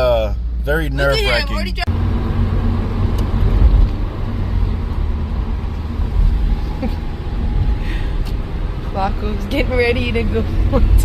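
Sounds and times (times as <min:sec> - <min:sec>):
car engine noise in cabin: 0:00.0 - 0:11.0
road noise: 0:00.0 - 0:11.0.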